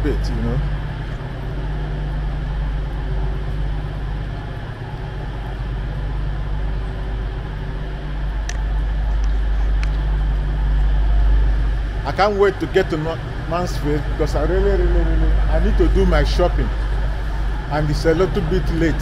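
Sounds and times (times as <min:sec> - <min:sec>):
diesel train engine idling: 0:00.0 - 0:19.0.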